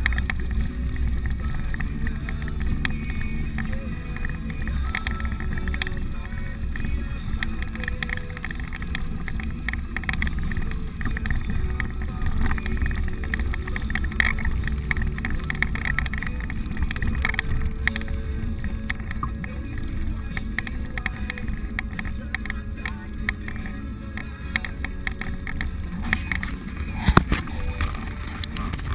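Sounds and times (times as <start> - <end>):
engine and tyres droning: 0.0 - 28.9
vehicle rattles and knocks: 0.0 - 28.9.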